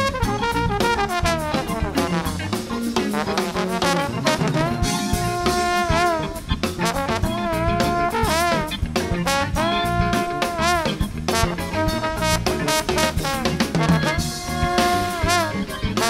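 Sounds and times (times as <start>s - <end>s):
horn holding long notes: 0.0s - 2.5s, 3.1s - 15.7s
drum kit: 0.0s - 16.0s.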